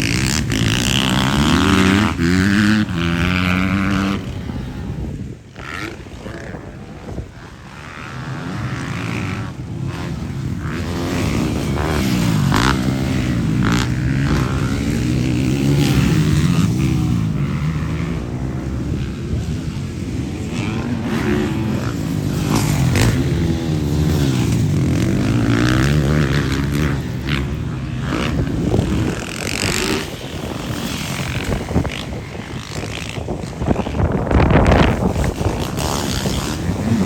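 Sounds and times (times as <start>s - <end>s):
motocross bikes revving: 0.0s - 37.0s.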